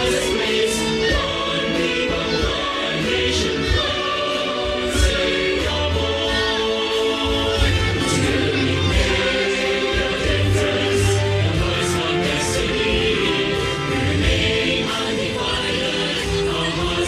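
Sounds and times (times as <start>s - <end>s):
choir and crowd singing: 0.0s - 17.0s
instrumental backing music: 0.0s - 17.0s.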